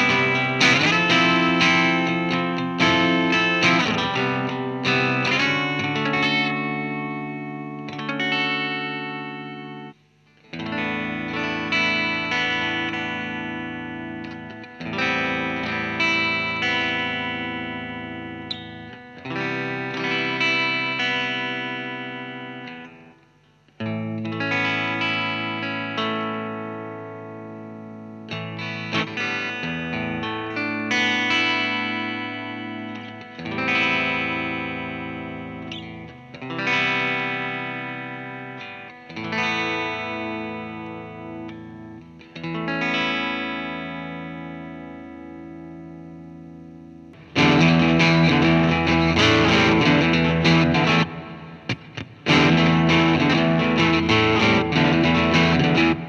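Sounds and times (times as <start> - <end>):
electric guitar chords ringing: 0.0 - 56.0.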